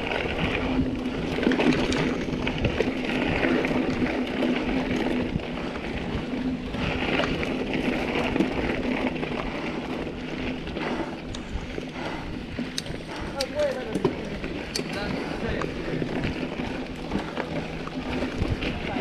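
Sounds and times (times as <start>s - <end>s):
bike tyres rumbling over trail: 0.0s - 19.0s
wind buffeting microphone: 0.0s - 19.0s.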